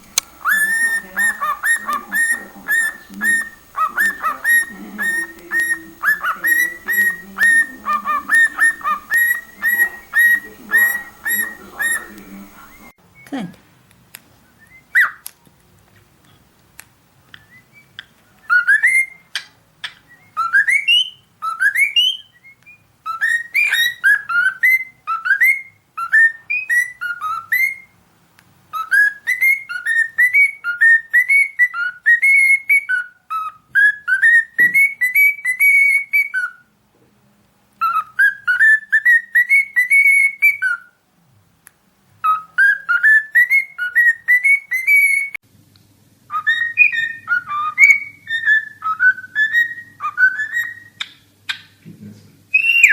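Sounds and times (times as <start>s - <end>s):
cockatiel whistling: 0.0s - 13.3s, 14.5s - 15.3s, 17.3s - 27.9s, 28.7s - 36.7s, 37.8s - 41.0s, 42.2s - 45.4s, 46.3s - 51.6s, 52.5s - 52.9s.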